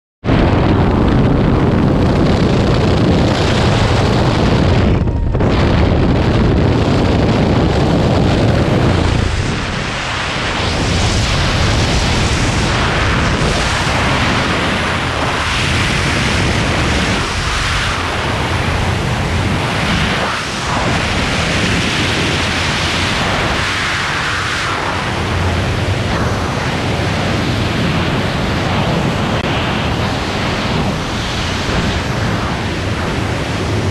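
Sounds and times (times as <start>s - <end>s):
wind rushing over microphone: 0.2s - 33.9s.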